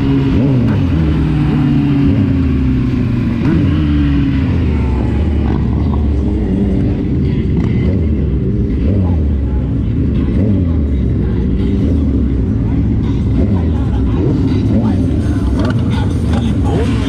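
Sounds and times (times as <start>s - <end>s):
road noise: 0.0s - 17.0s
vehicle engine running: 0.0s - 17.0s.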